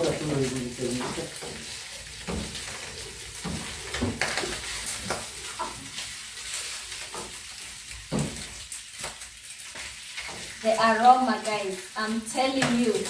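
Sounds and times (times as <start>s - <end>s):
meat sizzling in frying pan: 0.0s - 13.0s.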